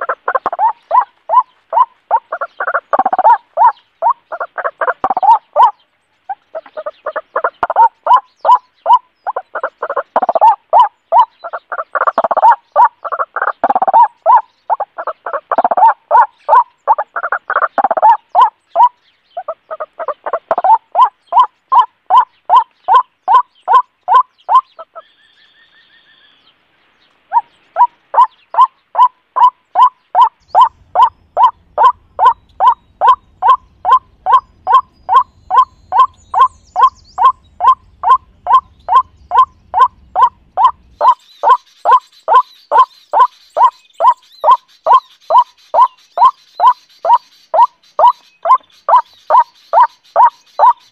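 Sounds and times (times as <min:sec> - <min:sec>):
repeated short bird call: 0:00.0 - 0:50.9.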